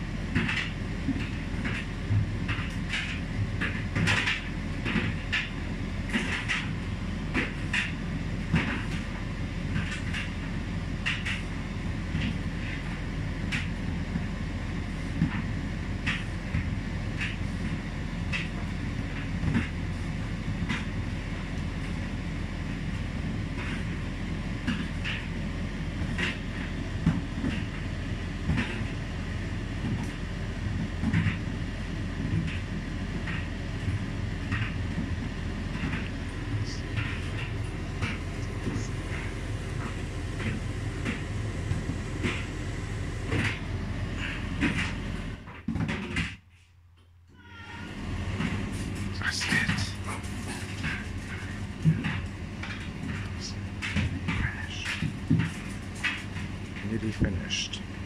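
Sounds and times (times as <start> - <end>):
tumble dryer humming: 0.0 - 46.4, 47.7 - 58.0.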